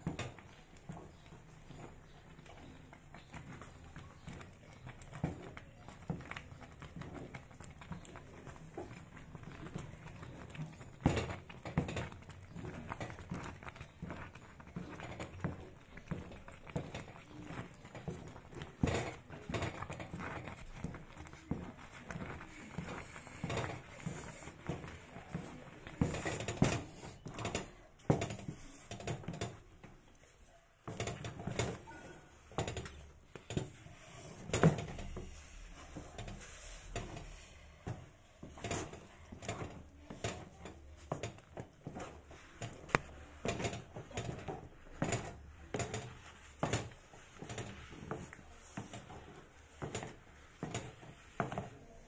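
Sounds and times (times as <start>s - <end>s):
wooden stick scraping a metal pot: 0.0s - 52.0s.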